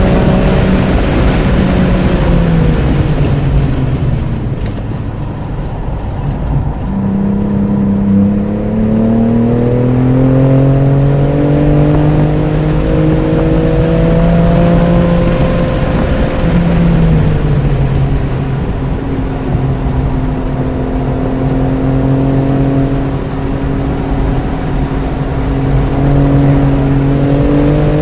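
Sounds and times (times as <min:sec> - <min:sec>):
car engine accelerating: 0:00.0 - 0:28.0
wind and tyre noise: 0:00.0 - 0:28.0.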